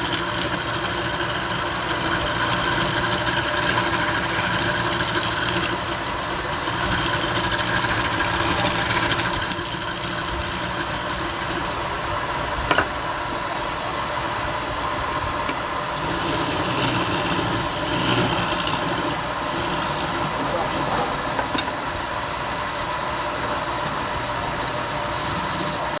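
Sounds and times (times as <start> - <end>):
woodworking machine running: 0.0 - 26.0.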